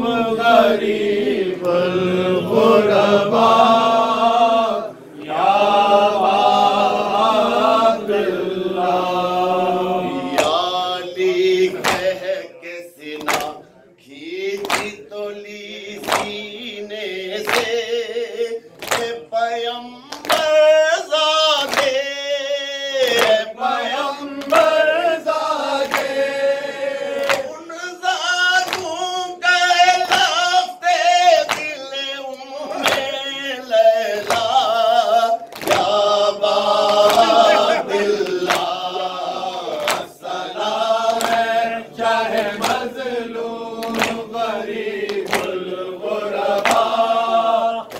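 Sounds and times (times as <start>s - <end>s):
men chanting in unison: 0.0s - 47.9s.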